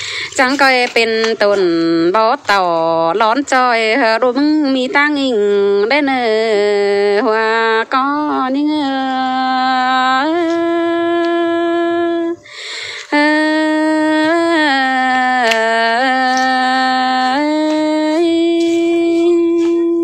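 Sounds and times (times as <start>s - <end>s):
woman singing folk song: 0.0s - 20.0s.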